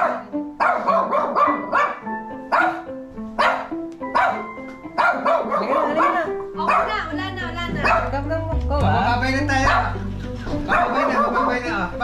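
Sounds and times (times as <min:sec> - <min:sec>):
recorded dog barks: 0:00.0 - 0:07.1, 0:07.8 - 0:08.2, 0:09.6 - 0:12.0.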